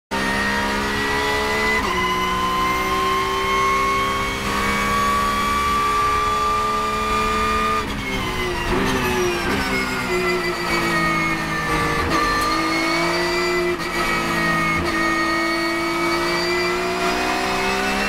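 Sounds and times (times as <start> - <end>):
race car engine revving at full throttle: 0.1 - 18.0.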